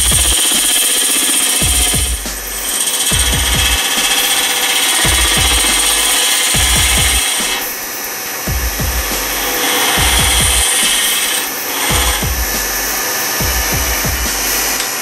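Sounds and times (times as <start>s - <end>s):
lathe tool scraping wood: 0.0s - 15.0s.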